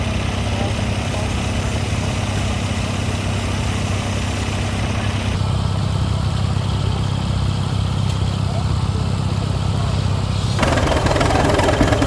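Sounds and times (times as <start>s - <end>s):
engine idling drone: 0.0s - 12.0s.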